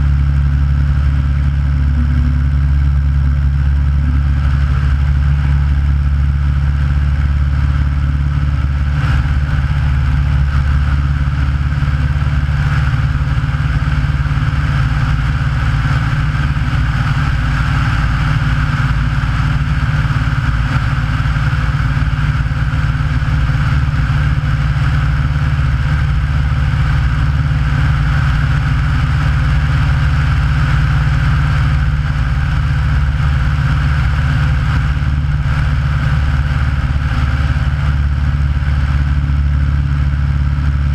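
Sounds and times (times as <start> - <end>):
airplane engine drone: 0.0 - 40.9.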